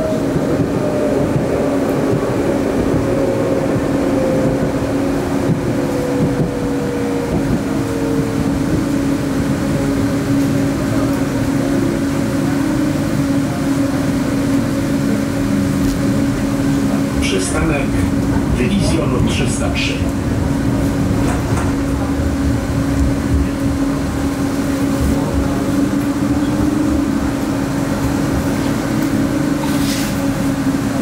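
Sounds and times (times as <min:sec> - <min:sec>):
tram rolling rumble: 0:00.0 - 0:31.0.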